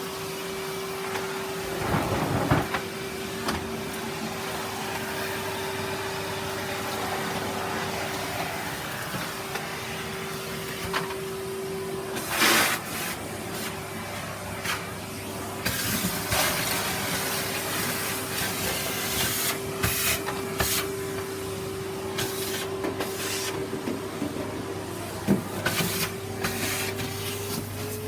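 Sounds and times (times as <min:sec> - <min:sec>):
vacuum nozzle hissing on floor: 0:00.0 - 0:23.8, 0:24.6 - 0:28.0
vacuum cleaner motor whine: 0:00.0 - 0:28.0.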